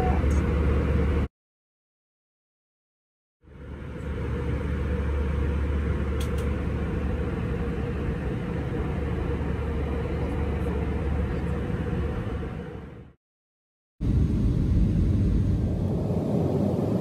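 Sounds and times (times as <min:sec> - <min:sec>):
vehicle rumble from inside: 0:00.0 - 0:01.3, 0:03.4 - 0:13.2, 0:14.0 - 0:17.0.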